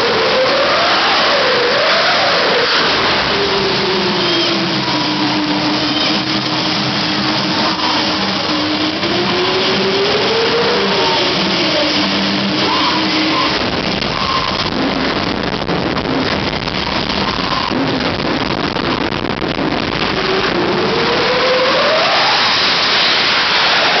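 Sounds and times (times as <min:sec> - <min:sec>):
jet engine whine rising: 0:00.0 - 0:14.8, 0:19.5 - 0:24.0
jet engine roaring: 0:00.0 - 0:24.0.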